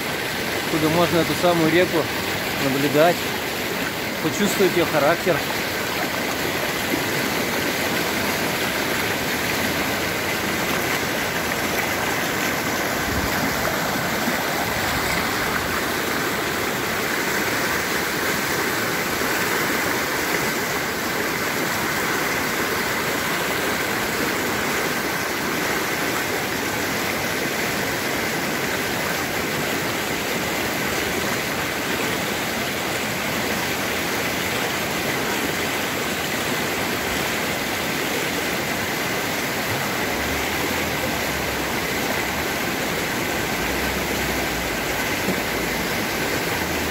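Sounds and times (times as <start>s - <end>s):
river rushing over boulders: 0.0s - 46.9s.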